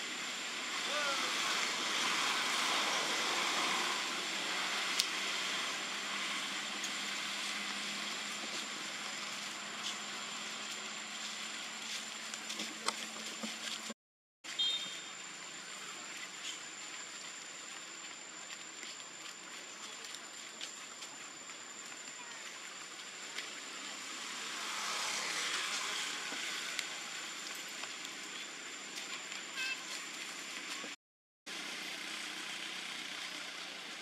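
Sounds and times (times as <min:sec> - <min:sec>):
high-pitched whine: 0:00.0 - 0:34.0
outdoor background hiss: 0:00.0 - 0:34.0.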